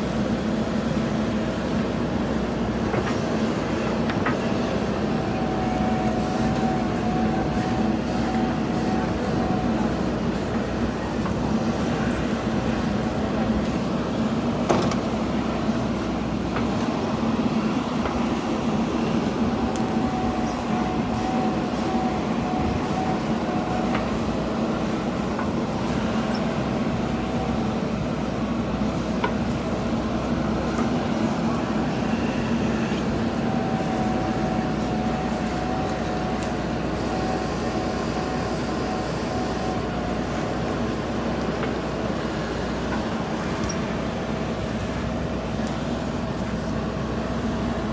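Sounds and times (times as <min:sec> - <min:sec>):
diesel engine running under load: 0:00.0 - 0:47.9.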